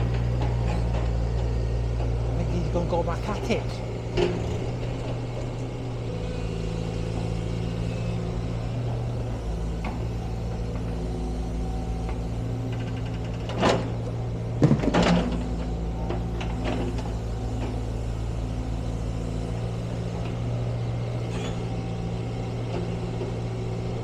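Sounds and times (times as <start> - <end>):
demolition machine engine running: 0.0 - 24.0.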